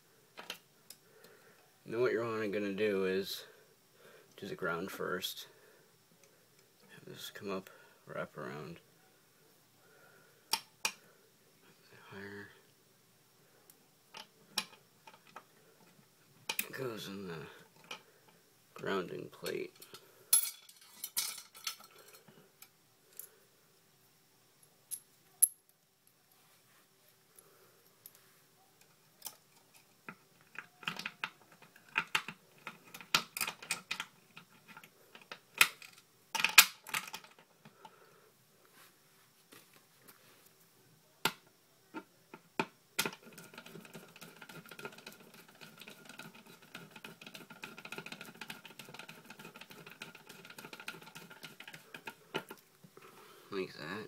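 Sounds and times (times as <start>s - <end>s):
faint background noise: 0.0s - 54.0s.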